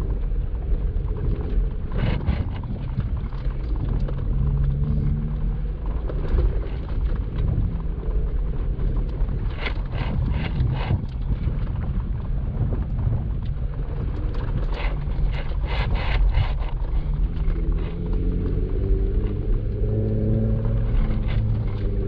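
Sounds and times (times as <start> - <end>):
vehicle engine low rumble: 0.0 - 22.0.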